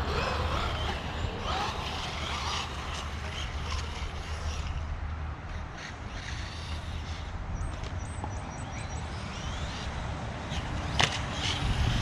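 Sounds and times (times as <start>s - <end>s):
toy car motor whine: 0.0s - 4.9s, 5.5s - 7.9s, 8.6s - 12.0s
wind rumble on microphone: 0.0s - 12.0s.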